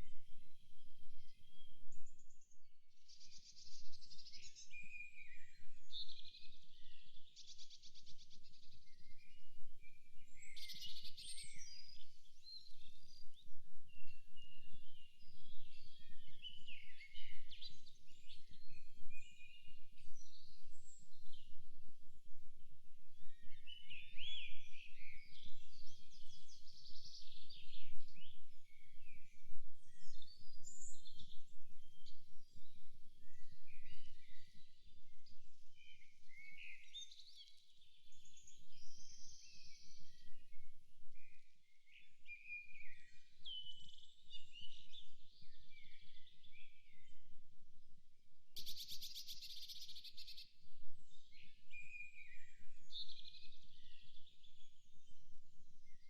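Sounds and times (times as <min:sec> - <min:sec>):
songbirds chirping and whistling: 0:03.1 - 0:22.2, 0:23.2 - 0:47.2, 0:48.6 - 0:56.0.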